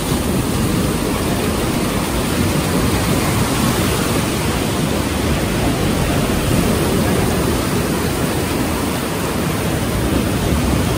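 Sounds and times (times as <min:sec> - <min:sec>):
surf washing onto sand: 0:00.0 - 0:10.9.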